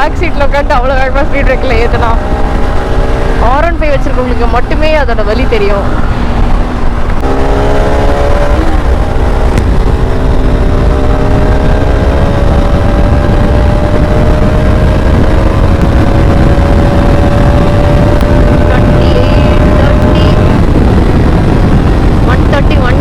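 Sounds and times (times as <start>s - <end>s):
motorcycle engine pulling hard: 0.0s - 23.0s
wind rumble on microphone: 0.0s - 23.0s.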